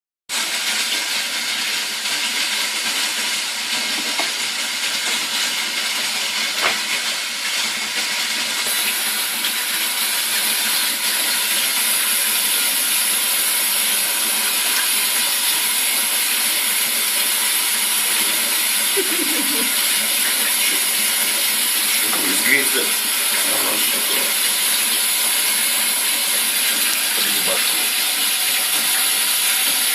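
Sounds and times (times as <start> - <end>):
running water hissing: 1.4 - 29.9.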